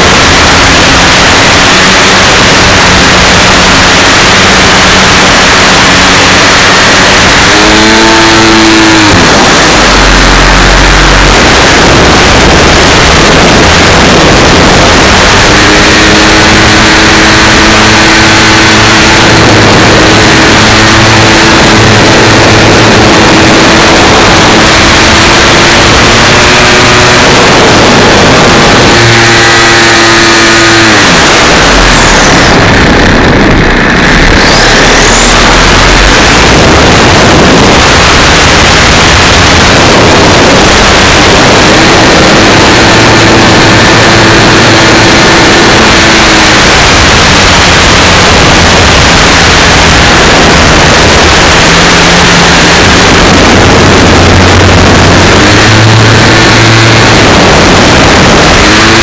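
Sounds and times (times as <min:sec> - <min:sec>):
model plane engine droning: 0:00.0 - 0:59.0
rushing air: 0:00.0 - 0:59.0.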